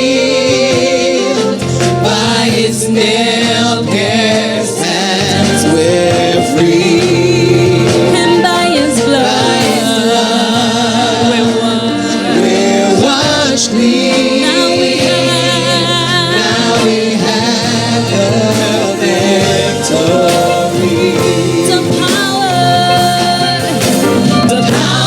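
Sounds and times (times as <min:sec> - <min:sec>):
instrumental accompaniment: 0:00.0 - 0:25.0
voices singing with vibrato: 0:00.0 - 0:25.0.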